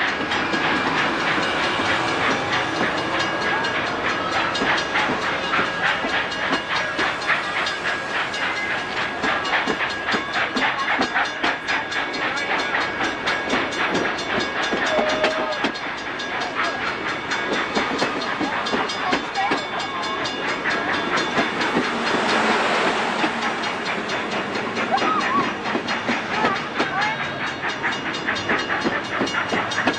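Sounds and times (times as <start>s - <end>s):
train rolling rumble: 0.0s - 29.9s
train wheels clicking over rail joints: 0.0s - 29.9s.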